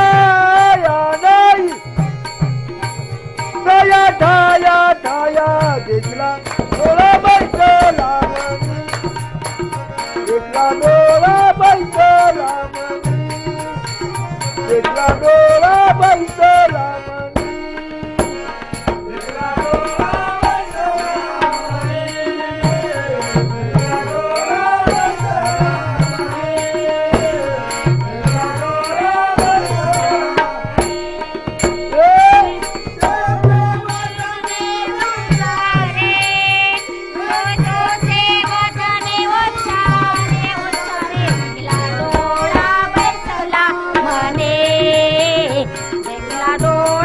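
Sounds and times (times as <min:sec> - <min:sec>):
devotional song melody: 0:00.0 - 0:47.0
high ticking on the beat: 0:00.0 - 0:47.0
hand drum beat: 0:05.4 - 0:47.0.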